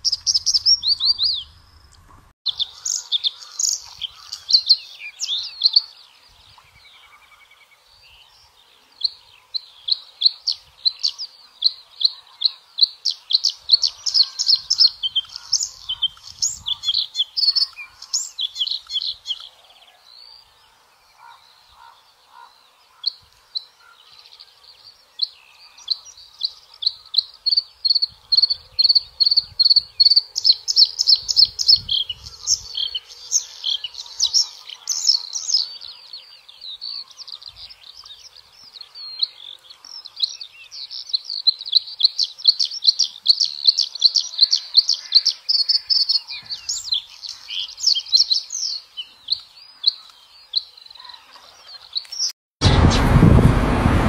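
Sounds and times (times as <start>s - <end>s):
bird singing chirps and trills: 0.0s - 52.3s.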